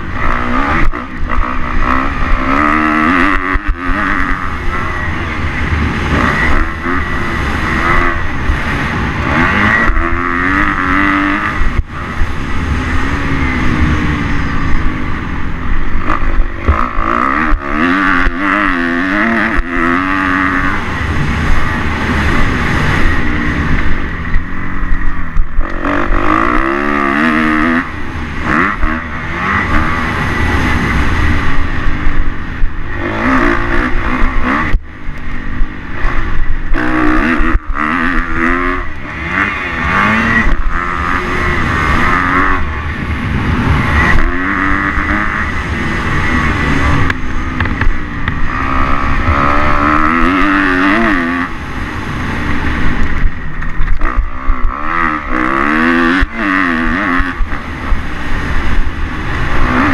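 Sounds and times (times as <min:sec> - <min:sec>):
motocross bike engine revving: 0:00.0 - 0:59.9
wind rumbling on microphone: 0:00.0 - 0:59.9.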